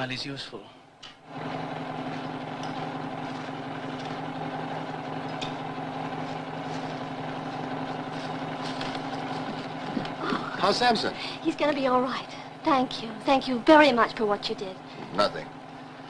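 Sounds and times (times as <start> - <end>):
engine running steadily: 1.0 - 16.0.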